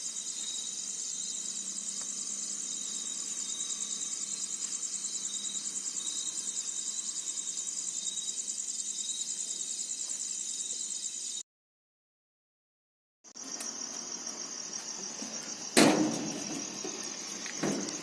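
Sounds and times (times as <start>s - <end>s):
insects shrilling: 0.0s - 11.4s, 13.3s - 18.0s.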